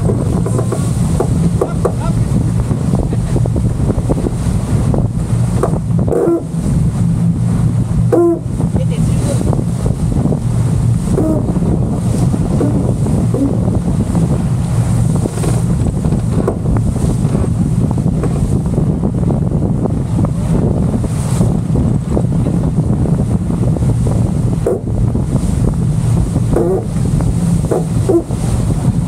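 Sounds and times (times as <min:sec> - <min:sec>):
water rushing past hull: 0:00.0 - 0:29.0
wind buffeting microphone: 0:00.0 - 0:29.0.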